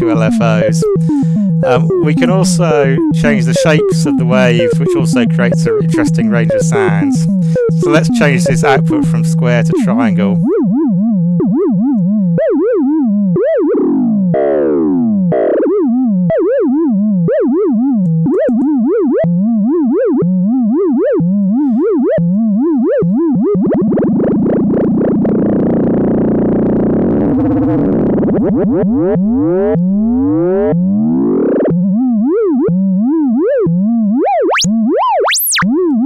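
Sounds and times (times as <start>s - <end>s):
warbling synthesizer tone: 0.0s - 36.0s.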